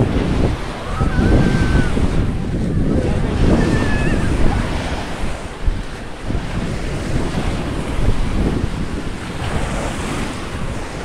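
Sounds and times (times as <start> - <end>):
small waves breaking on shore: 0.0 - 11.0
wind rumbling on microphone: 0.0 - 11.0.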